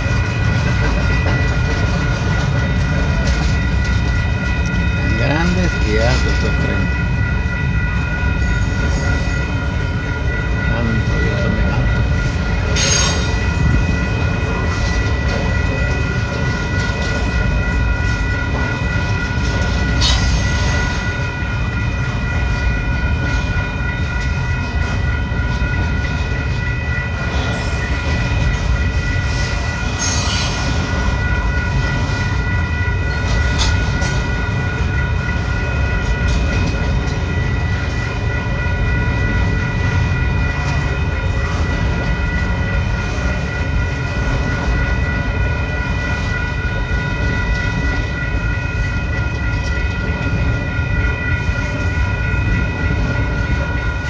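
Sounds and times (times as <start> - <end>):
train clattering: 0.0 - 54.0
train wheels rumbling on rail: 0.0 - 54.0.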